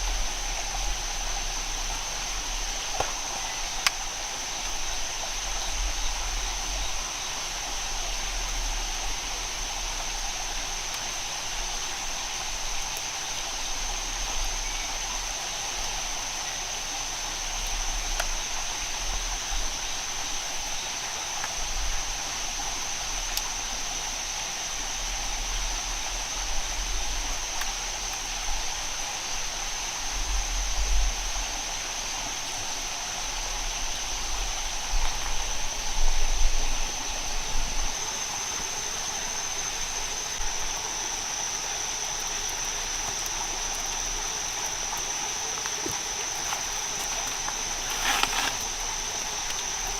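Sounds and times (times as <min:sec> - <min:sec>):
constant high-pitched whine: 0:00.0 - 0:49.9
rushing water hiss: 0:00.0 - 0:49.9.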